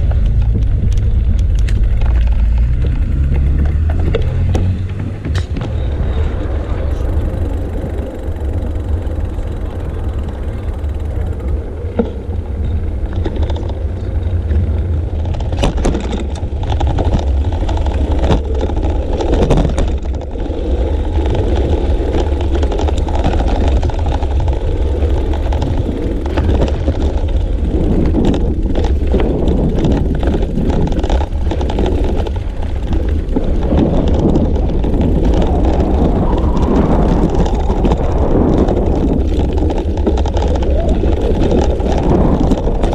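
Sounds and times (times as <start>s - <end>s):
bike knocks and rattles: 0.0s - 42.9s
wind buffeting microphone: 0.0s - 42.9s.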